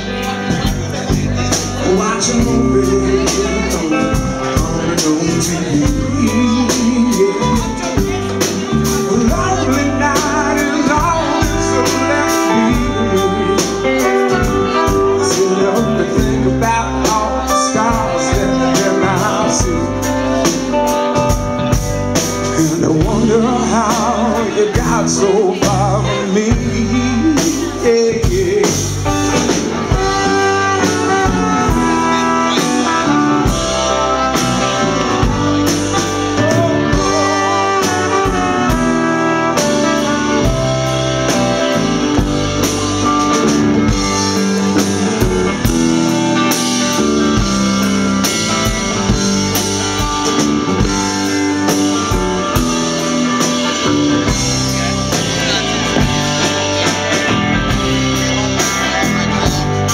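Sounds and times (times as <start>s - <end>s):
live soul band playing: 0.0s - 59.9s.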